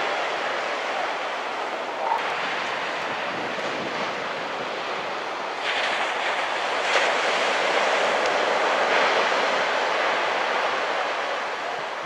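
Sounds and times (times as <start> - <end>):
small surf breaking: 0.0 - 12.0
wind on microphone: 0.0 - 12.0.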